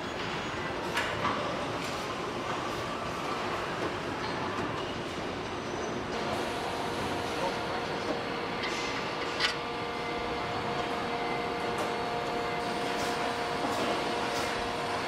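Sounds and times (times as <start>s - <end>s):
industrial machinery hiss and rumble: 0.0s - 15.0s.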